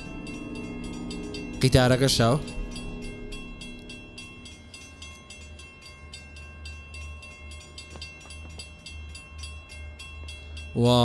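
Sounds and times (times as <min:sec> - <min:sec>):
train wheels clattering: 0:00.0 - 0:09.7
train passing: 0:00.0 - 0:11.0.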